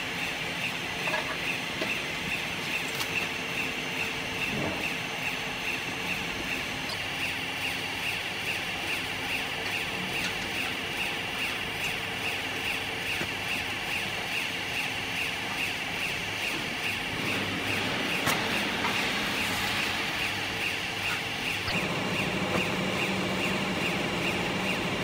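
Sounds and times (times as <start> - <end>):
hydraulic pump motor hum: 0.0 - 25.0
pulsing high whine: 1.5 - 25.0.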